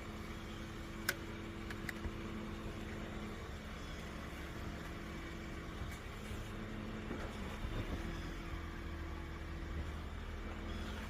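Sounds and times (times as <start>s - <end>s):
steady low hum with tones: 0.0s - 11.0s.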